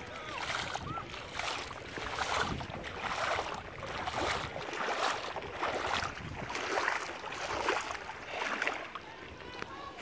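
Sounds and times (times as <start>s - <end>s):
footsteps splashing in water: 0.0s - 10.0s.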